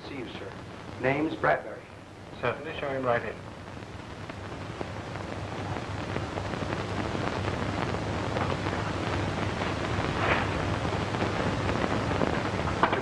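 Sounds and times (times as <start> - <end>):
film soundtrack hiss and crackle: 0.0 - 13.0.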